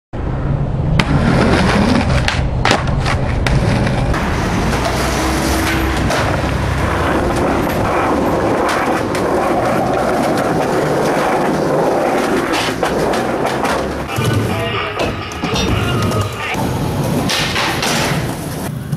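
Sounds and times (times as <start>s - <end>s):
skateboard wheels rolling on concrete: 0.7s - 18.9s
skateboard clacking on ground: 2.0s - 18.9s.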